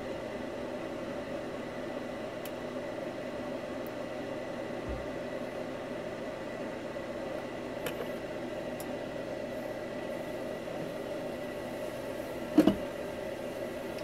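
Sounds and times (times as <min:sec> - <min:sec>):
background hum with high whine: 0:00.0 - 0:14.0.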